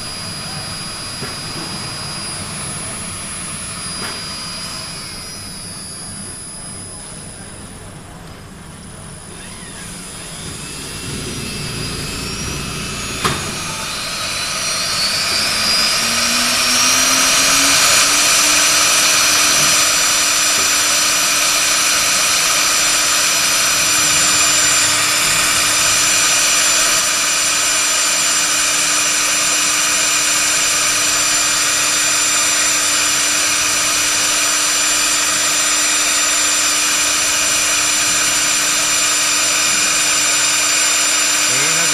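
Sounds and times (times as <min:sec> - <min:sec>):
router spindle motor whine: 0:00.0 - 0:41.9.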